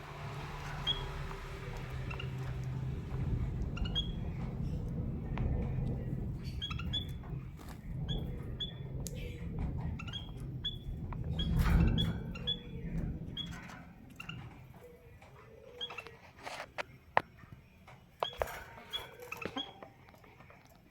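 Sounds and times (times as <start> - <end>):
birds chirping: 0.0 - 20.9
birds rustling in a cage: 0.0 - 20.9
low steady hum: 0.0 - 20.9.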